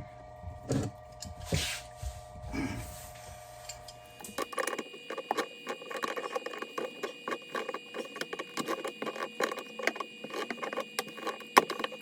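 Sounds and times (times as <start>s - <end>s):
faint steady high tone: 0.0s - 12.0s.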